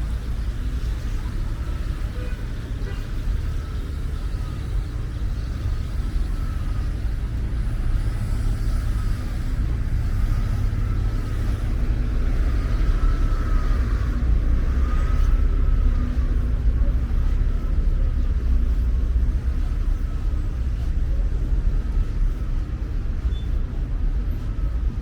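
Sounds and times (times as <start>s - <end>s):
cars passing on wet road: 0.0s - 20.6s.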